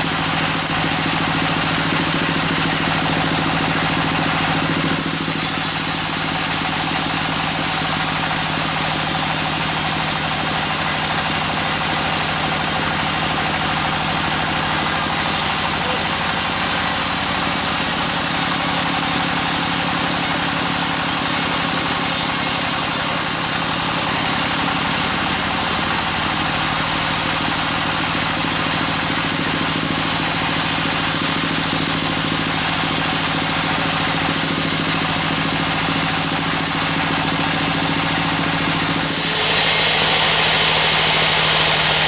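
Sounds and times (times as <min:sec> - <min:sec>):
band saw cutting log: 0:00.0 - 0:42.0.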